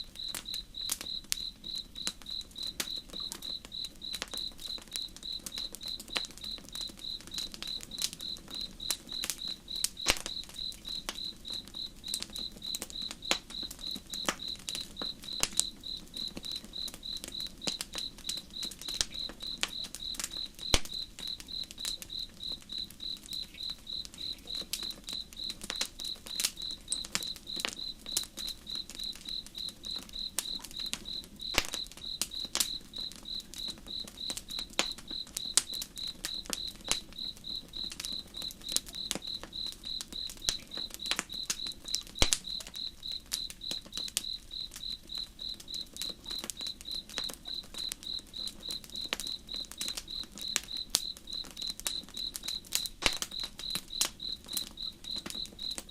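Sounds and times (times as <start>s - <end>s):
campfire crackling and popping: 0.0s - 55.9s
cricket chirping: 0.0s - 55.9s.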